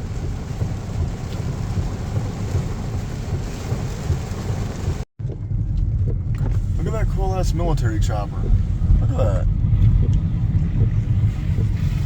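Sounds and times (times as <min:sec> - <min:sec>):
heavy rain on a car: 0:00.0 - 0:12.0
low road noise: 0:00.0 - 0:12.0.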